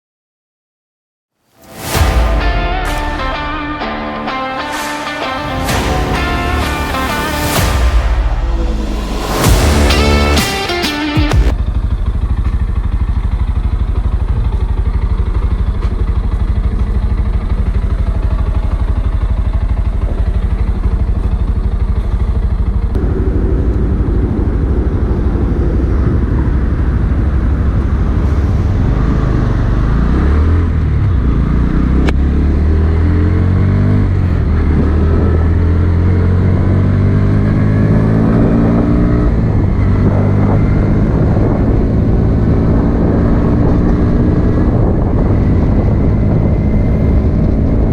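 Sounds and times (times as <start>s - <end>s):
motorcycle engine revving: 1.6s - 47.9s.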